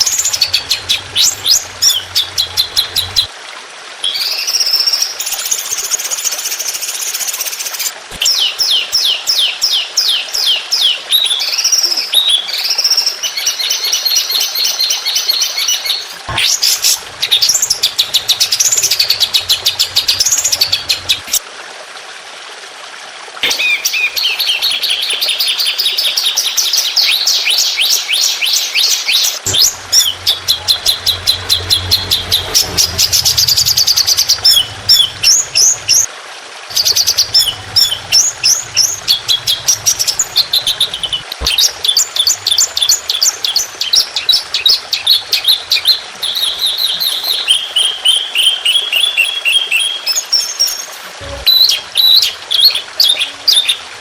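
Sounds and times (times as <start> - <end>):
songbird chirps and trills: 0.0 - 3.3, 4.1 - 21.4, 23.4 - 36.1, 36.7 - 53.8.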